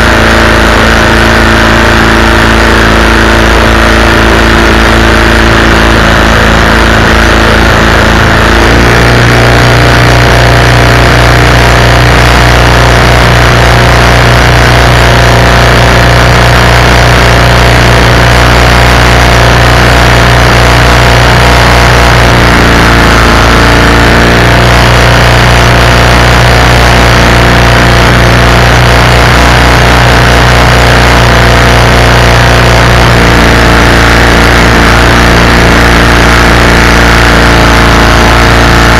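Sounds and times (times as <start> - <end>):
small engine running loud: 0.0 - 38.9.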